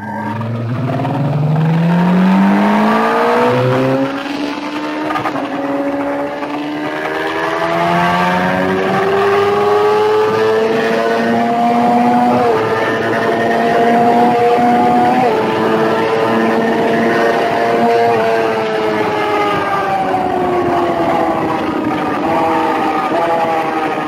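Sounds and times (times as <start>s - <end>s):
motorcycle engine accelerating: 0.0s - 24.0s
wind rush on microphone: 3.4s - 24.0s.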